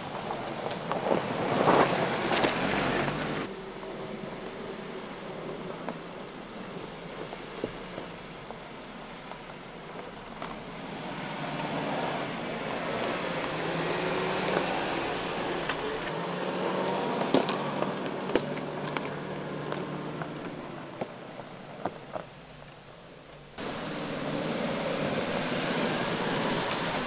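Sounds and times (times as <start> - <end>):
car engine at low revs: 0.0 - 27.0
twigs and stones crunching under tyres: 0.0 - 27.0.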